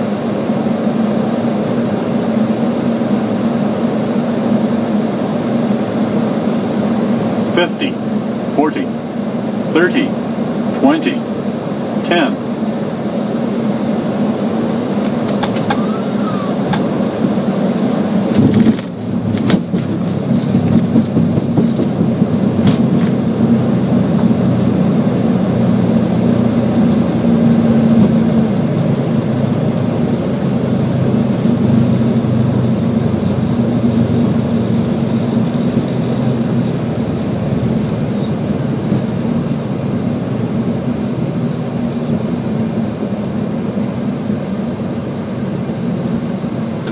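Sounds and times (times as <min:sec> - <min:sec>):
airplane engines and wheels rumble: 0:00.0 - 0:46.9.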